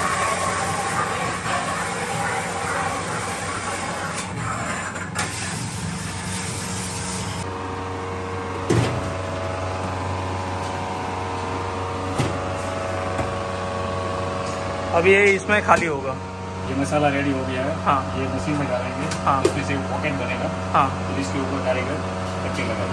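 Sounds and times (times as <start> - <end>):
food-processing machinery hum: 0.0 - 22.9.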